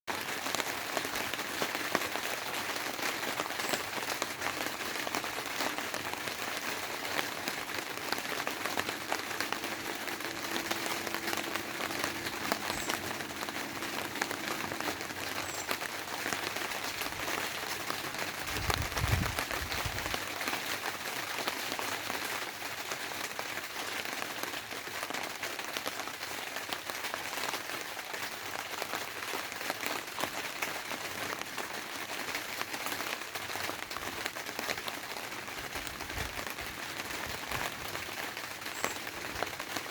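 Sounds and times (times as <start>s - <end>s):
rain on a tarpaulin: 0.0s - 39.9s.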